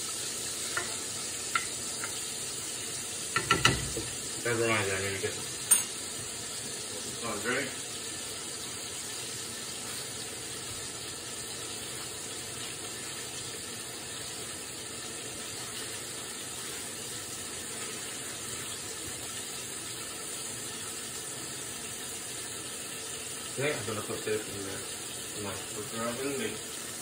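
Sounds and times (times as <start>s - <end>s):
meat sizzling in a frying pan: 0.0s - 27.0s.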